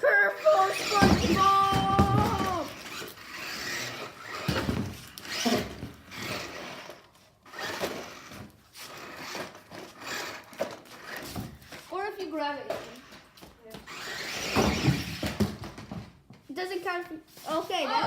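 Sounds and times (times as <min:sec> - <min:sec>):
toy car knocking and scraping: 0:00.3 - 0:16.3.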